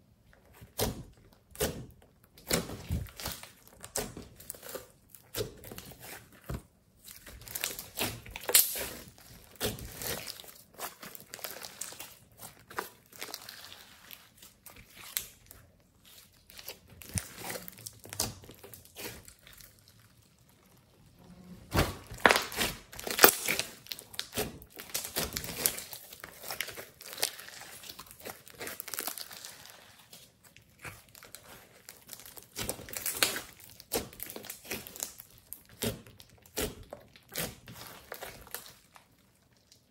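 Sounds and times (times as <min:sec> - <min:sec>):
slime crackling and popping: 0:00.5 - 0:39.9.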